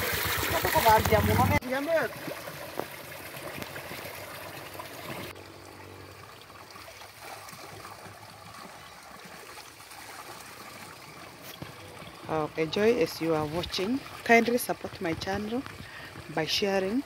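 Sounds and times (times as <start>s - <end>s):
water splashing into pool: 0.0s - 17.0s.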